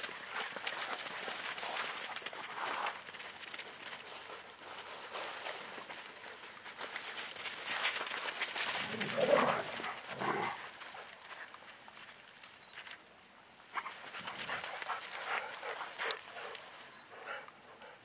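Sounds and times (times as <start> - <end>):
paws rustling on dry leaves: 0.0 - 18.0.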